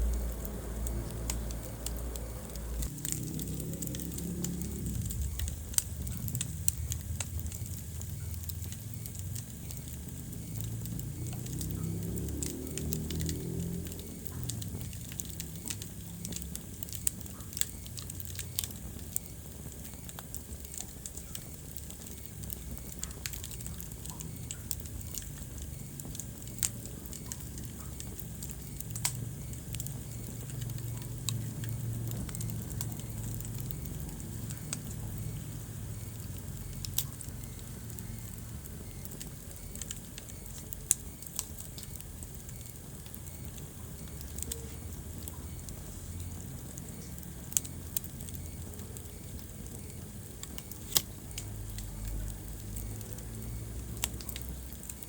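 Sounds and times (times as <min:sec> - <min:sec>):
low rumble of burning: 0:00.0 - 0:55.0
wood fire crackling and popping: 0:00.0 - 0:55.0.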